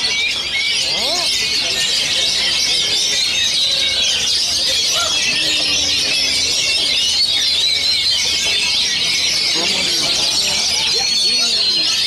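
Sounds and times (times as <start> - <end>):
many birds singing: 0.0 - 12.0.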